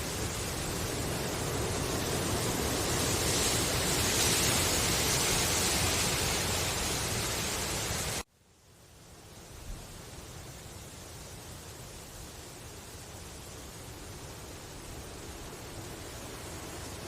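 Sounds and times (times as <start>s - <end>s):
wind rustling bamboo leaves: 0.0s - 17.0s.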